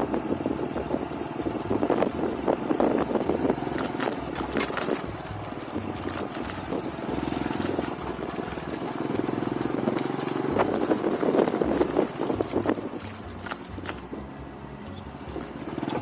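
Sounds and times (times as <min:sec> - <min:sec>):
vehicle engine through exhaust: 0:00.0 - 0:16.0.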